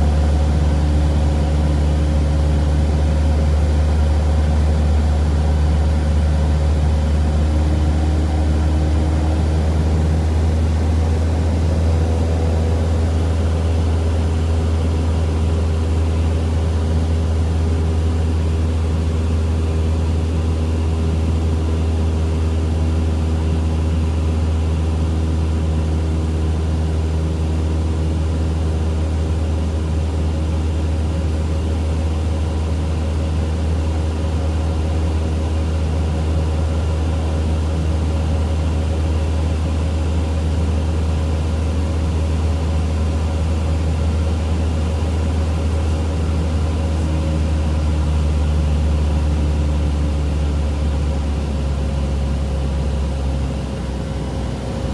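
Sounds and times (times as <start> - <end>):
propeller plane engine droning: 0.0 - 54.9.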